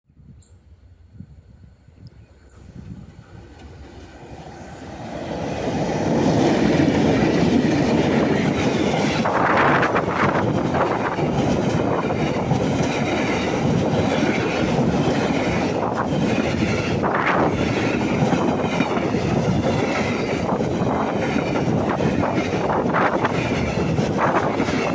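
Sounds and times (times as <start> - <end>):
train rumble and wheel noise: 0.2 - 24.9.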